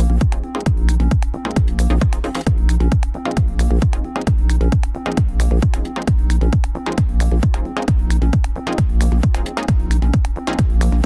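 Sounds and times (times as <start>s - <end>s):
electronic music with fast beat: 0.0s - 11.0s.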